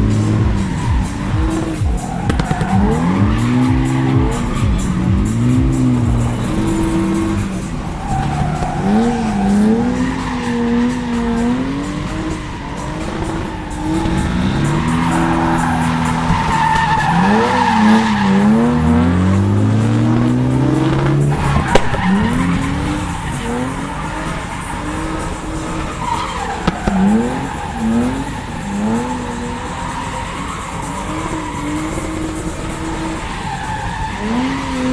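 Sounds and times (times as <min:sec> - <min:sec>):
car engine revving: 0:00.0 - 0:34.9
tyres squealing: 0:00.0 - 0:34.9.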